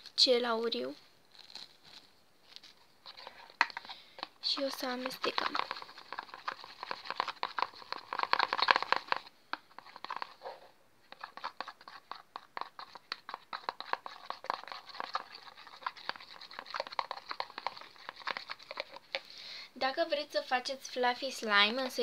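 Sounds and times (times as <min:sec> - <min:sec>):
pencil stirring sticky glue: 0:01.3 - 0:22.0.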